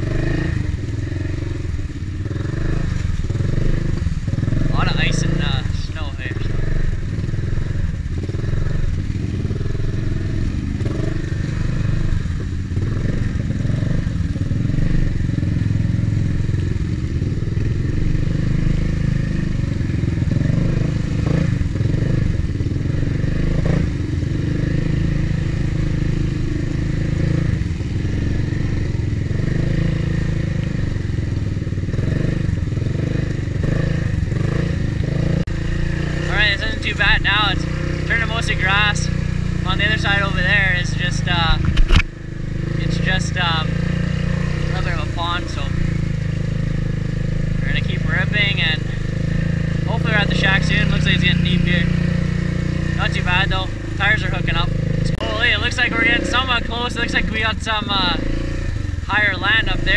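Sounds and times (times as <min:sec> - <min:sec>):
atv engine running under load: 0:00.0 - 0:59.9
water splashing around wheels: 0:00.0 - 0:59.9.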